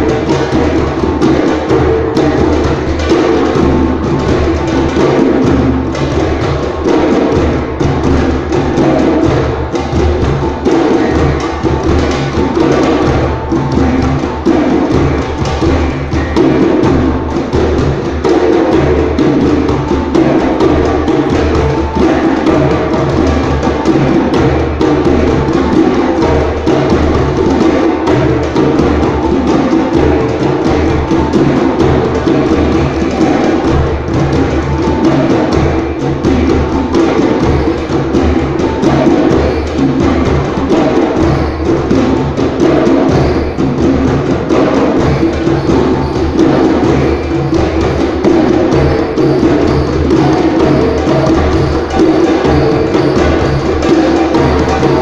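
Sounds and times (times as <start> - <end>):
hand drums playing: 0.0 - 55.0.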